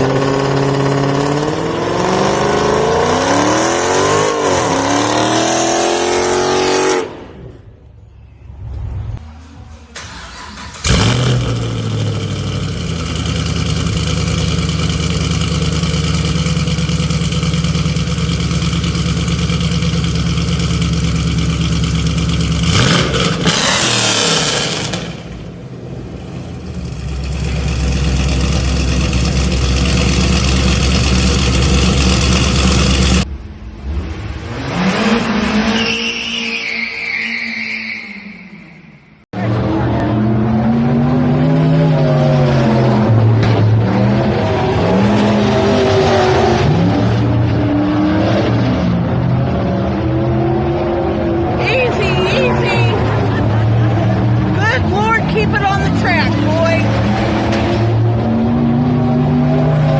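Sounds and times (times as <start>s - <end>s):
car engine revving: 0.0s - 7.6s, 10.0s - 36.4s, 39.3s - 59.9s.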